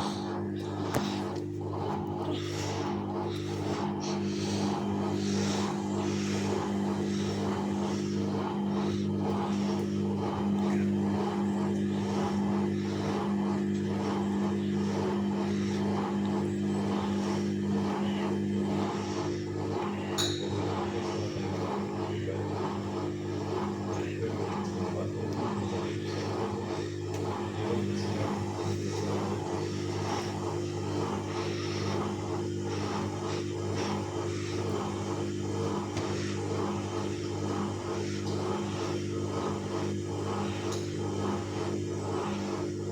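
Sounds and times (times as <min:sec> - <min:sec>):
washing machine humming: 0:00.0 - 0:42.9.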